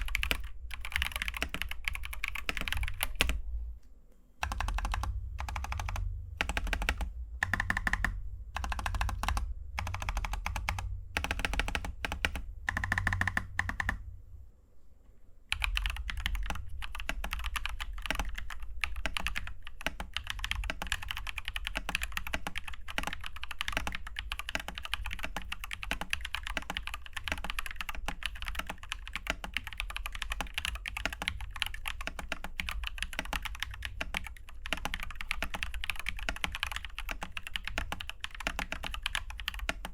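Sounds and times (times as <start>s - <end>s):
mechanical keyboard typing: 0.0s - 3.4s, 4.4s - 14.0s, 15.5s - 39.9s.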